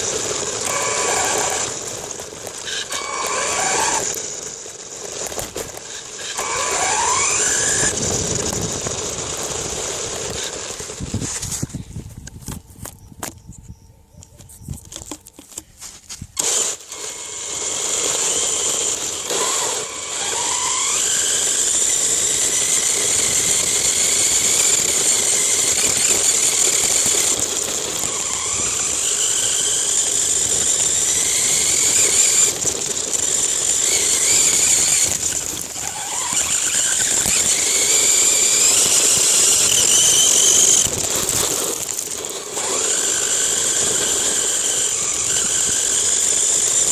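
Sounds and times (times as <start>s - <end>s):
toy car motor whining: 0.0s - 11.9s, 16.4s - 46.9s.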